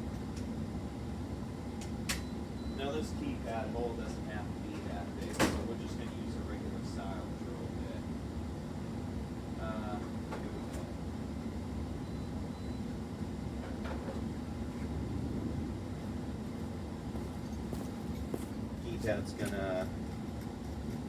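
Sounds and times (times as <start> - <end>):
low hum and rumble: 0.0 - 21.0.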